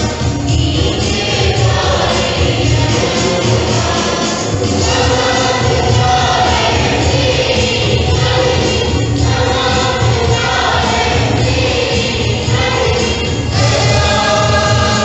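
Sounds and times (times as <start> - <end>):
choir singing a hymn: 0.0 - 15.0
musical accompaniment: 0.0 - 15.0.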